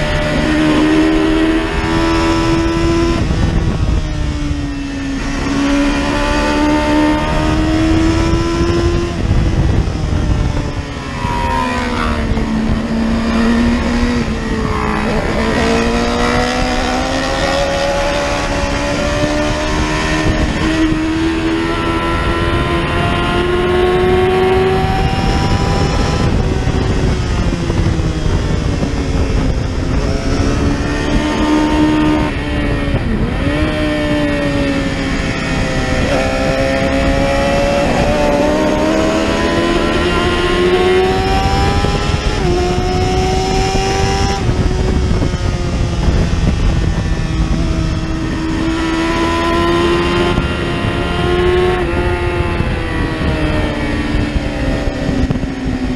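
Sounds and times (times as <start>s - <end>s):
racing motorcycle engine: 0.0s - 55.9s.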